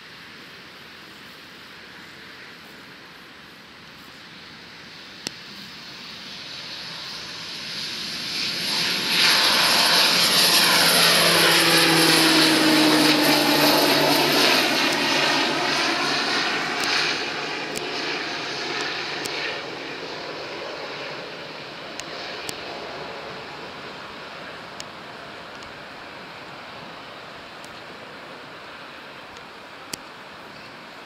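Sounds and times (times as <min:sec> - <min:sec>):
turboprop plane climbing past: 0:04.4 - 0:29.3.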